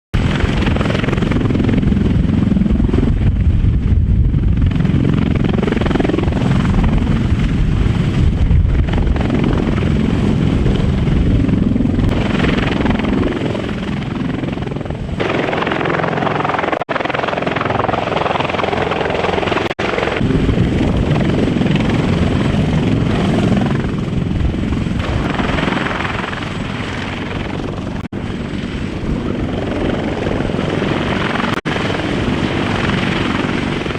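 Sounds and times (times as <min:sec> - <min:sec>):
helicopter rotor and turbine noise: 0:00.2 - 0:33.9.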